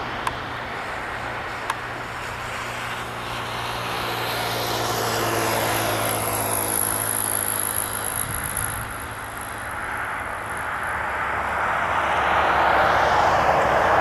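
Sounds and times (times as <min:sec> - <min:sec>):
jet aircraft roar passing: 0:00.0 - 0:14.0
jet engine whine: 0:00.0 - 0:14.0.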